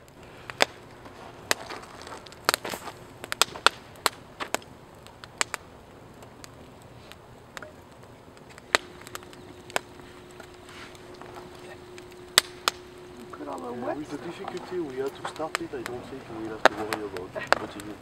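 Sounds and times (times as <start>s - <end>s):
faint steady hum: 0.0s - 18.0s
sharp pops and snaps: 0.0s - 18.0s
wood fire crackling: 0.0s - 18.0s.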